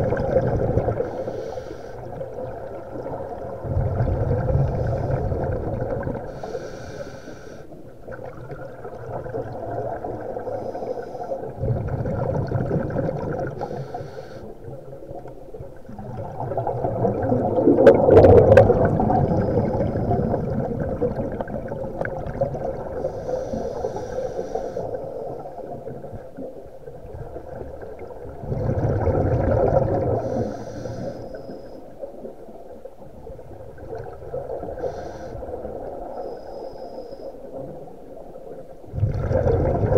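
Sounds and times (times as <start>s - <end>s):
gurgling exhaled bubbles: 0.0s - 6.8s, 8.0s - 31.2s, 32.0s - 36.2s, 37.5s - 39.9s.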